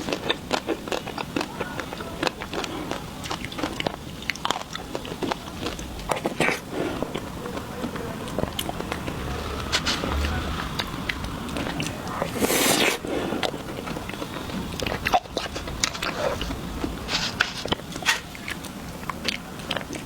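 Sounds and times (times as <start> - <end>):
eating ice cream bites: 0.0 - 20.0.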